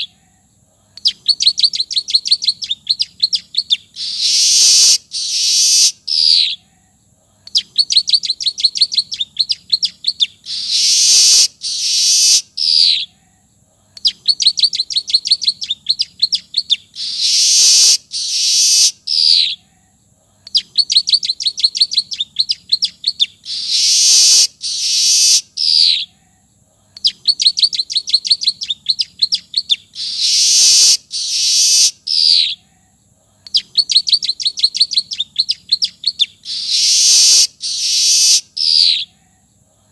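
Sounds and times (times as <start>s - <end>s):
weaver bird song: 0.0s - 39.6s.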